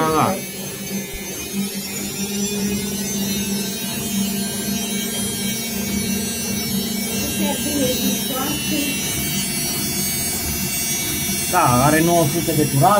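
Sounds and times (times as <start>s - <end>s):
washing machine spinning: 0.0s - 12.9s.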